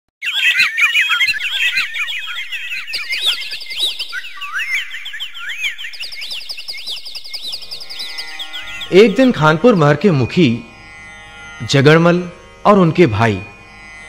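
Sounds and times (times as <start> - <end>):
birds chirping and whistling: 0.2 - 11.8.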